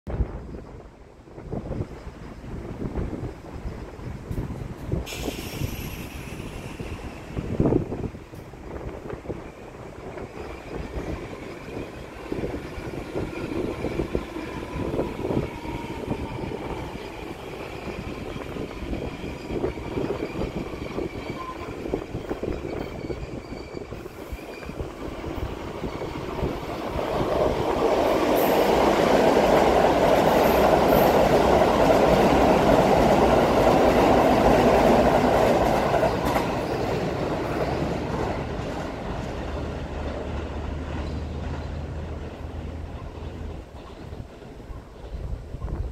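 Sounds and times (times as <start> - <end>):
train wheels rolling on rails: 0.1 - 45.9.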